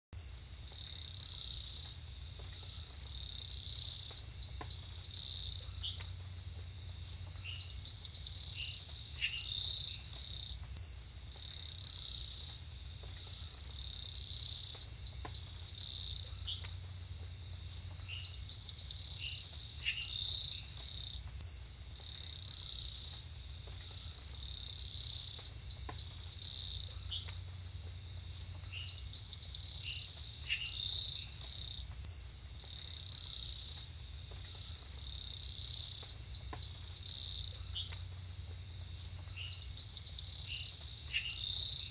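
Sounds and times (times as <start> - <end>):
insects trilling: 0.2 - 41.9.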